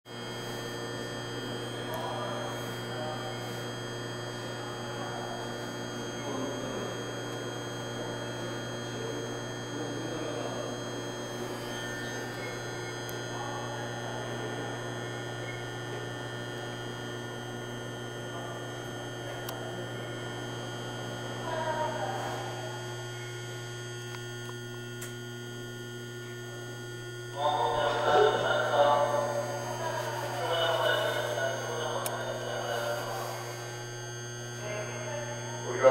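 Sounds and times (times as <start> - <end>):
faint voices: 0.1 - 24.3, 26.0 - 35.9
train car electrical hum: 0.1 - 35.9.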